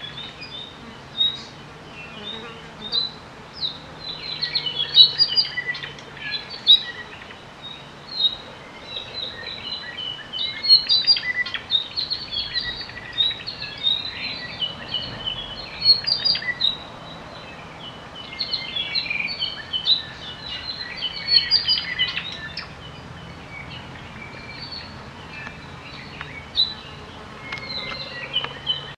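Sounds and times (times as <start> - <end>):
birds chirping and trilling: 0.0 - 28.9.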